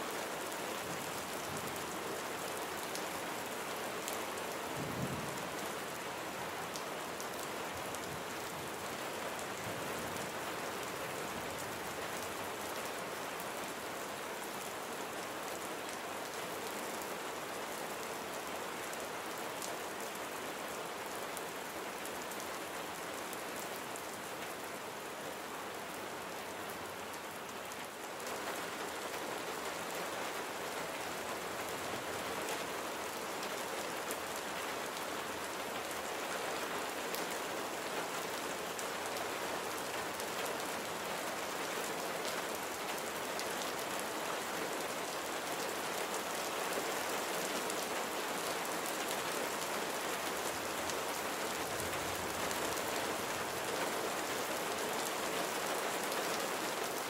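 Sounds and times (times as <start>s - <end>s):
raindrops hitting surfaces: 0.0s - 57.0s
steady rain hiss: 0.0s - 57.0s.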